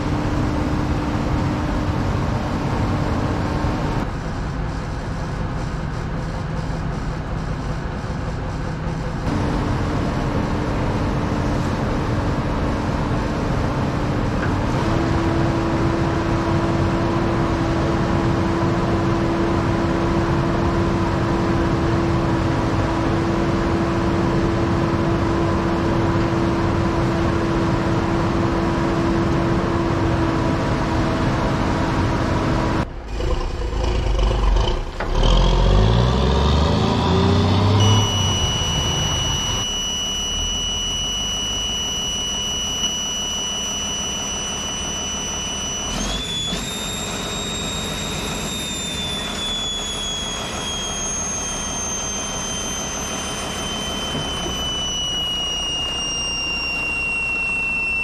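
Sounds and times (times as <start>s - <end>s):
diesel engine revving: 0.0s - 4.1s, 8.4s - 57.2s
diesel engine running: 0.0s - 58.0s
high engine whine: 0.0s - 58.0s.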